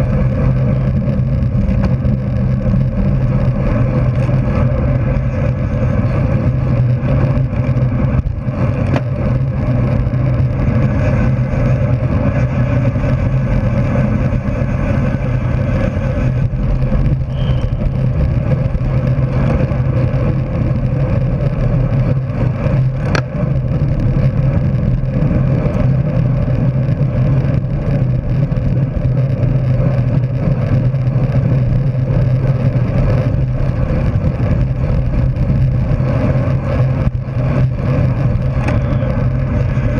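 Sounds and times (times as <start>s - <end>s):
bicycle road noise: 0.0s - 39.9s
wind rush: 0.0s - 39.9s.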